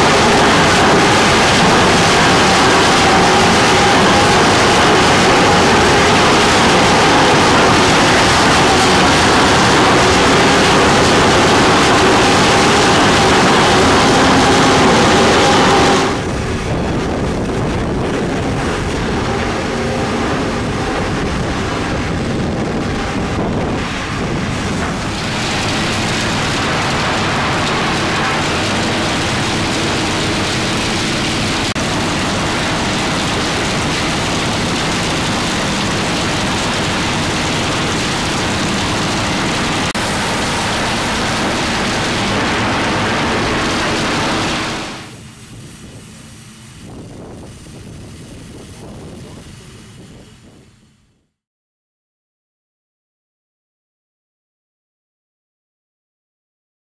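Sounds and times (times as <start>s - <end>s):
sawmill machinery rushing noise: 0.0s - 50.6s.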